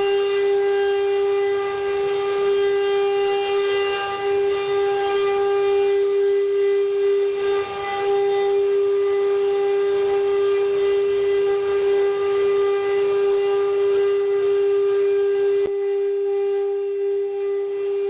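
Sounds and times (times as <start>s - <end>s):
wood-carving machine spindles whining: 0.0s - 18.0s.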